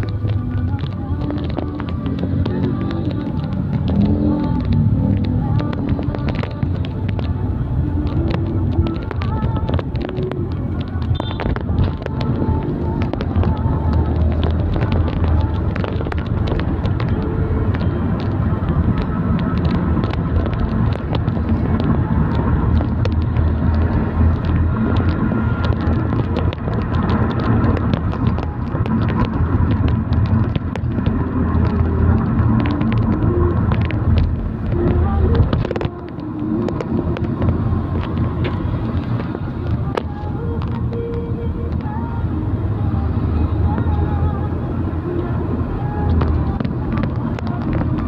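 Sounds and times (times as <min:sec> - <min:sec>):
passing traffic: 0:00.0 - 0:48.0
vehicle engine: 0:00.0 - 0:48.0.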